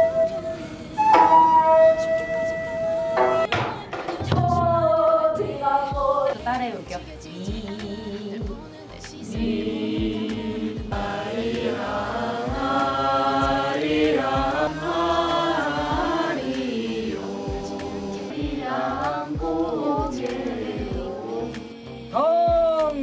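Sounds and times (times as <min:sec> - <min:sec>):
group singing in unison: 0:00.0 - 0:22.3.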